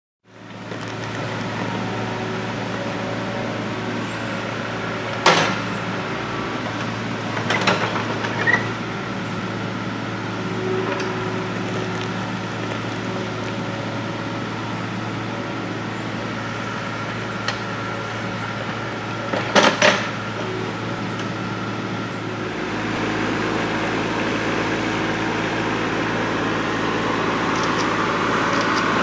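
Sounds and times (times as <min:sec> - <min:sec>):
diesel engine running: 0:00.3 - 0:29.0.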